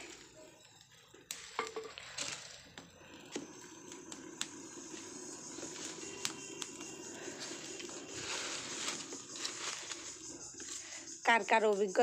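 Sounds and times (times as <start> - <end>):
dry leaves crackling in fire: 0.0 - 12.0
hiss of burning: 0.0 - 12.0.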